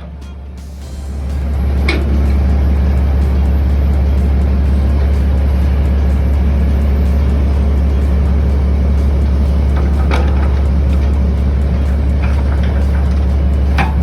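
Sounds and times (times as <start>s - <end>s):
excavator loading dirt into truck: 0.0s - 14.0s
heavy diesel engines droning: 0.0s - 14.0s.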